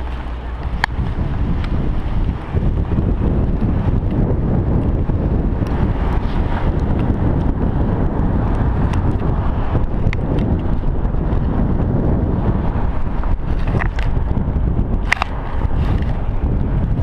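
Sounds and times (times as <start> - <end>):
road and car noise: 0.0 - 17.0
wind rushing over microphone: 0.0 - 17.0.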